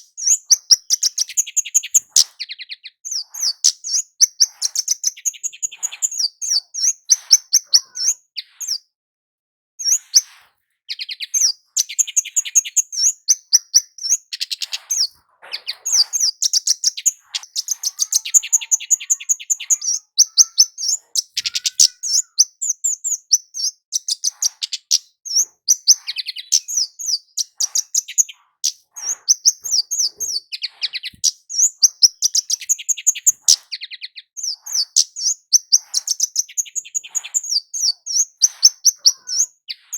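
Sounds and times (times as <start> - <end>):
bird singing high thin chirps: 0.0 - 8.9, 9.8 - 39.9.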